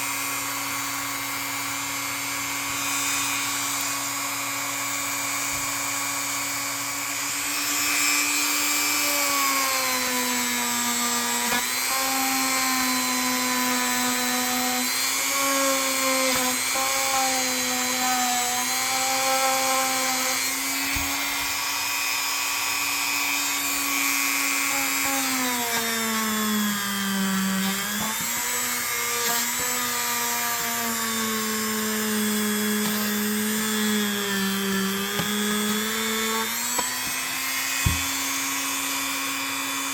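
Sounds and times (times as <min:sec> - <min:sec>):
rotary tool whining: 0:00.0 - 0:39.9.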